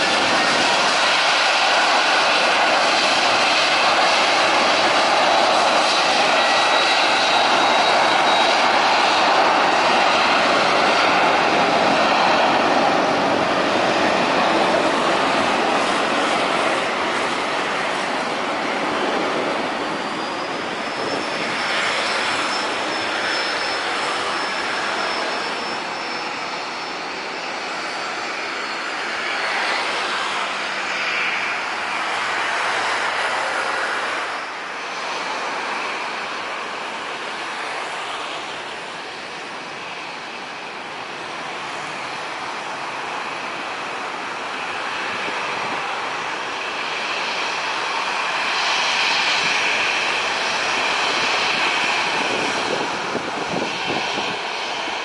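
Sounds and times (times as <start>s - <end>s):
jet engines on takeoff roll: 0.0s - 55.0s.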